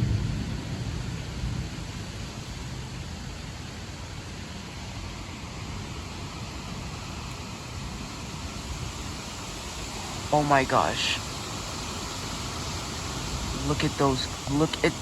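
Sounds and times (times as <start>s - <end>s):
low thunder rumble: 0.0s - 15.0s
wind and rain hiss: 0.0s - 15.0s.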